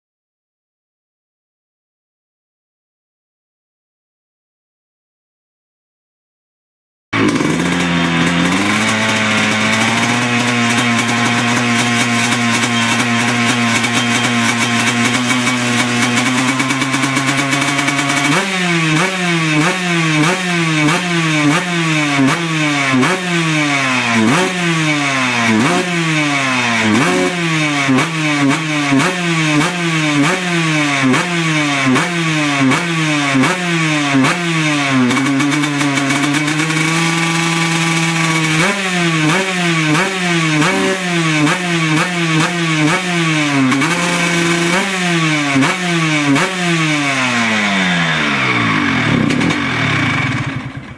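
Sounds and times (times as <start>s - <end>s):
motorcycle engine idling and revving: 7.2s - 50.9s.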